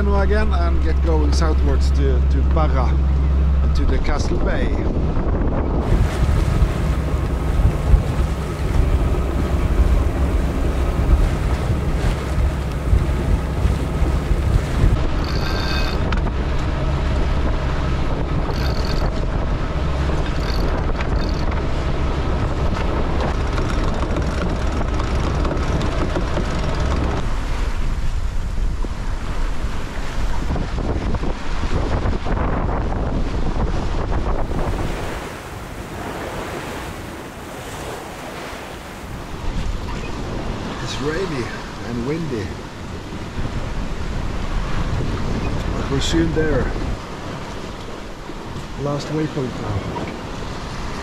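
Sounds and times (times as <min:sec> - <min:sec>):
water rushing past hull: 0:00.0 - 0:51.0
wind buffeting microphone: 0:00.0 - 0:51.0.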